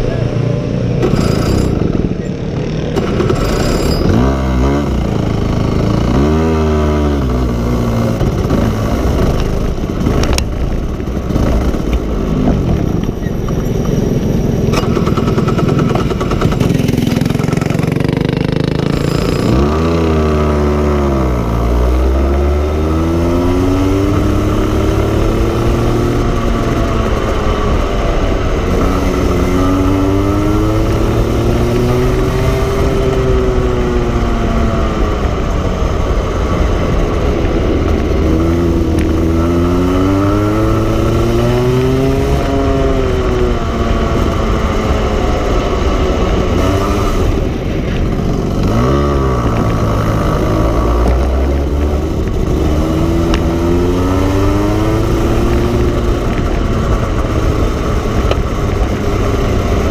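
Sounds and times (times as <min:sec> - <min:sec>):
go-kart engine: 0:00.0 - 0:59.9.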